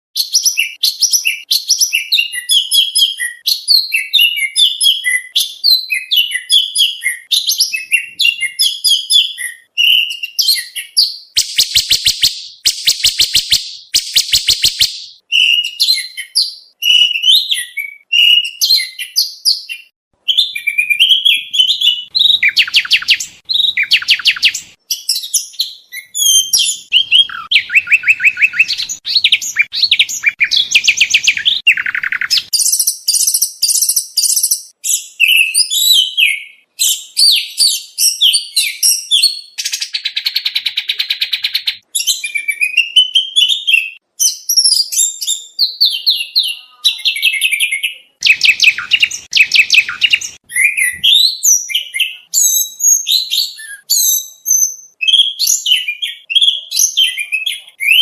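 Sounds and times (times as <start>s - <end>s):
bird singing chirps and whistles: 0.2s - 58.0s.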